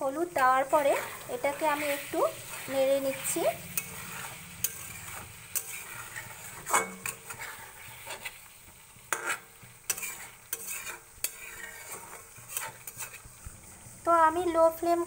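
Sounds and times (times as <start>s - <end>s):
hot oil sizzling: 0.0s - 15.0s
spatula scraping metal pan: 0.6s - 13.4s.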